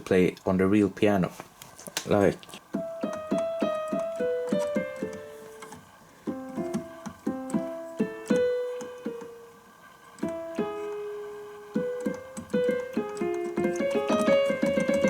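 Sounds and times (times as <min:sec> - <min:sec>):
keyboard piano notes: 0:02.6 - 0:15.0.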